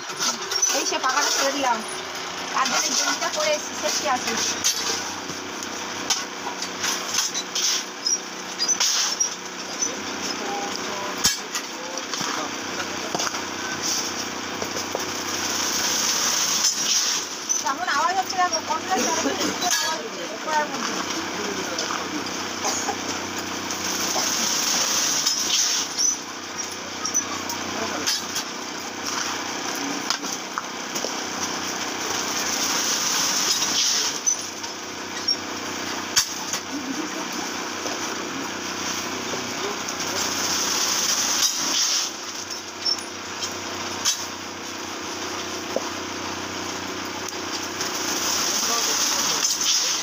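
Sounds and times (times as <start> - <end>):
electric fan whirring: 0.0 - 50.0.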